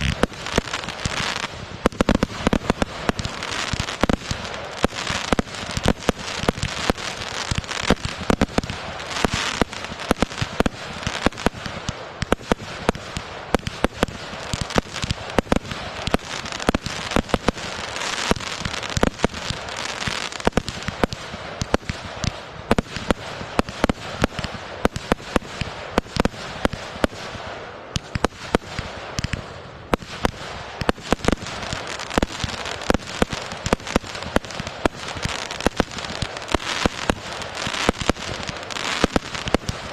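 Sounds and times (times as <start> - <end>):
fireworks bangs: 0.0 - 39.9
fireworks crackling hiss: 0.0 - 39.9.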